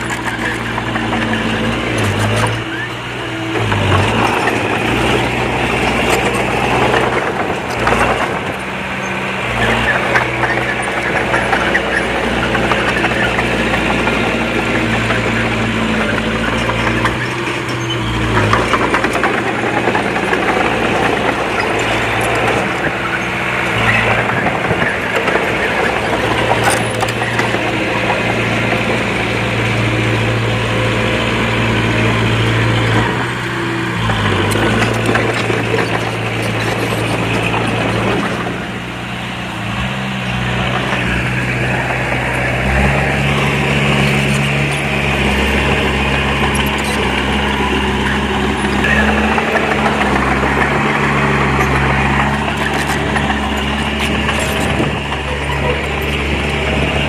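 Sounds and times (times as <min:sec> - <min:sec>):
bulldozer diesel engine running: 0:00.0 - 0:57.0
dense metallic rattle: 0:00.0 - 0:57.0.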